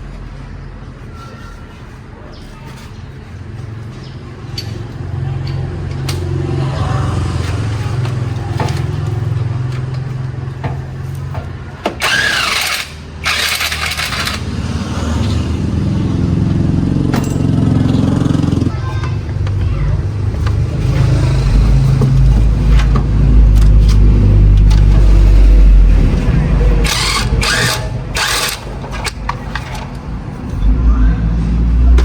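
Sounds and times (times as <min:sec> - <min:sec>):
engine running: 0:03.2 - 0:32.0.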